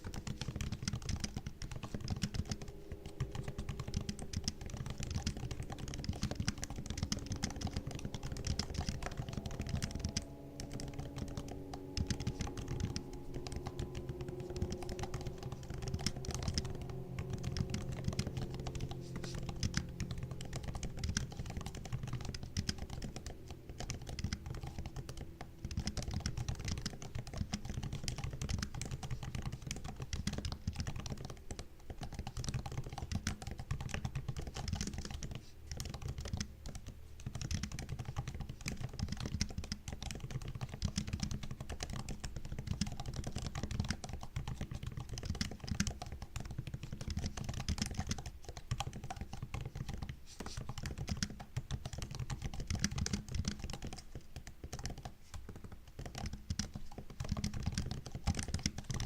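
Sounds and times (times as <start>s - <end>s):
laptop keyboard typing: 0.0s - 59.0s.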